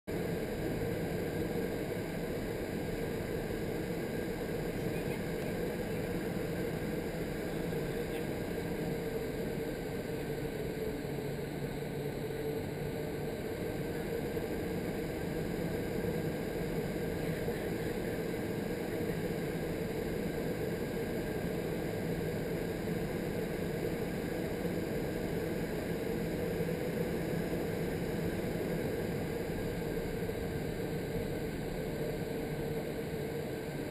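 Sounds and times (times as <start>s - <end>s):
steady drone: 0.1s - 33.9s.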